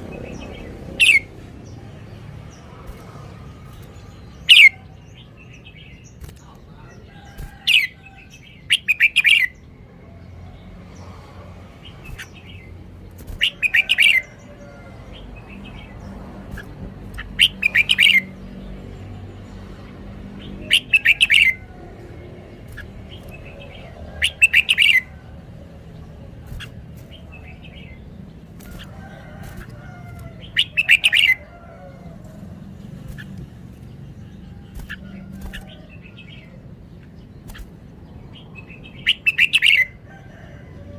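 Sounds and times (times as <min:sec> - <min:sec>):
bulbul singing: 0:00.0 - 0:09.8, 0:11.8 - 0:40.0.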